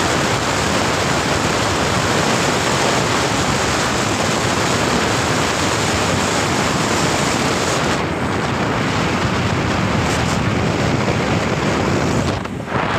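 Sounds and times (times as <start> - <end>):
vehicle road and wind noise: 0.0 - 12.9
wind buffeting microphone: 0.0 - 12.9.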